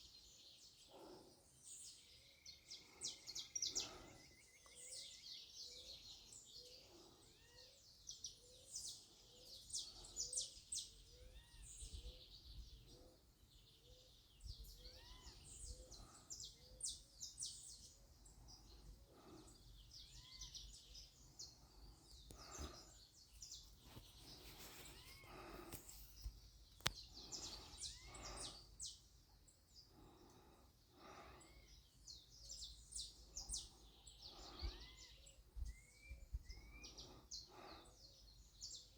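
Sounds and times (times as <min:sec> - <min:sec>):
faint bird chirping: 0:00.0 - 0:38.9.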